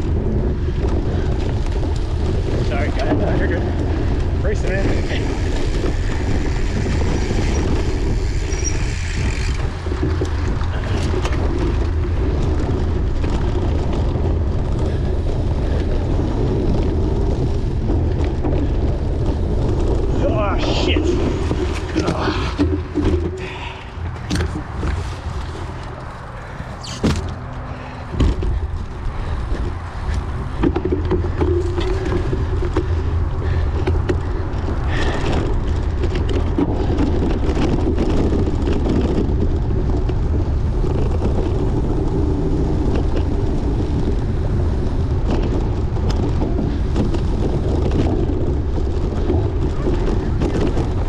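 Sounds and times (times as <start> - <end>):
bicycle rattling over rough ground: 0.0 - 51.0
wind on microphone: 0.0 - 51.0.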